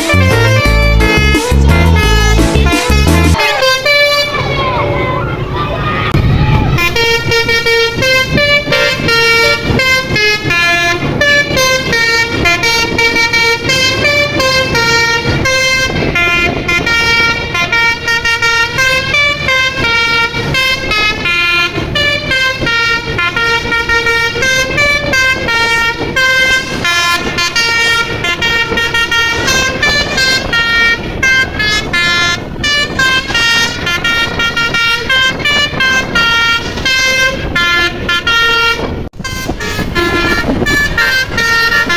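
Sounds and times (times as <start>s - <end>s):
multi-tone air horn tune: 0.0s - 5.4s, 6.7s - 41.9s.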